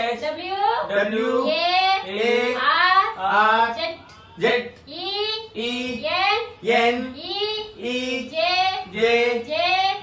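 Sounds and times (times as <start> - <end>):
high voice sing-song chanting: 0.9 - 10.0.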